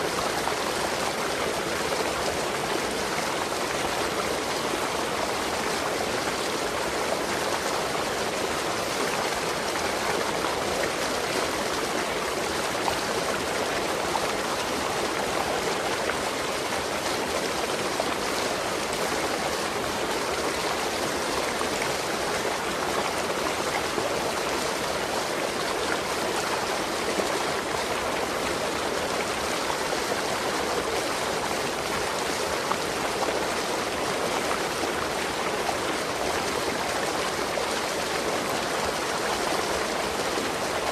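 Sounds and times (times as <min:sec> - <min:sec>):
waterfall roaring over rocks: 0:00.0 - 0:40.9.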